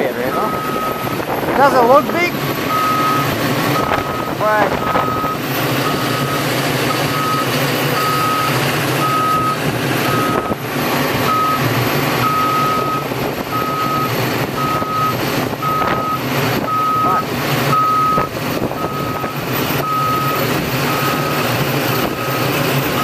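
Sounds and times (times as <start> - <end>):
diesel engine low rumble: 0.0 - 23.0
excavator travel alarm beeping: 0.2 - 10.6, 11.2 - 23.0.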